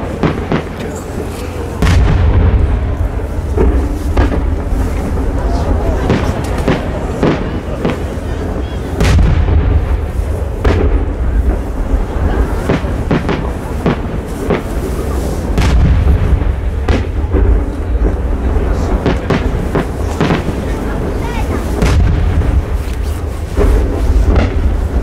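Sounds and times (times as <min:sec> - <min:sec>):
fireworks bangs: 0:00.0 - 0:25.0
steady low rumble: 0:00.0 - 0:25.0.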